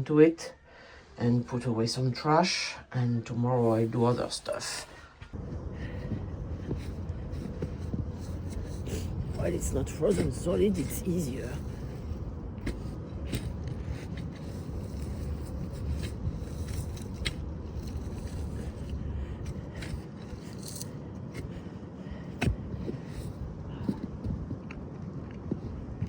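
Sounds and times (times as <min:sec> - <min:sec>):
low rumble: 0:03.8 - 0:26.0
compost scraping and clattering: 0:04.0 - 0:25.8.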